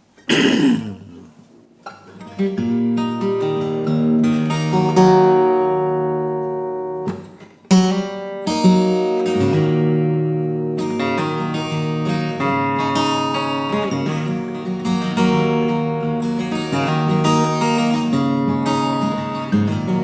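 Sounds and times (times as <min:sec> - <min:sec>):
acoustic guitar chords: 0:00.3 - 0:20.0.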